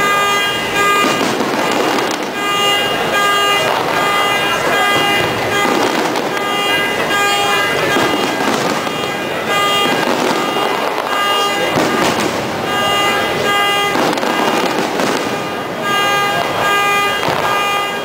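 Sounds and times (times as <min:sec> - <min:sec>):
dense continuous din: 0:00.0 - 0:18.0
fireworks bursting and crackling: 0:00.0 - 0:18.0
horns honking: 0:00.0 - 0:18.0.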